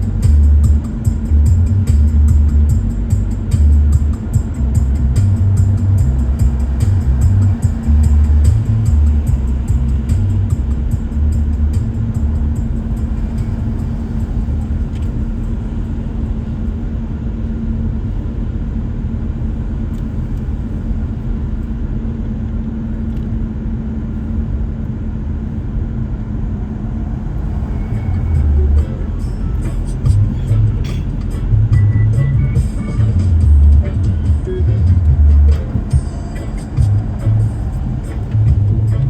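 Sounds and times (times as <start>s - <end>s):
car engine and road noise: 0.0s - 39.0s
steady low hum: 0.0s - 39.0s.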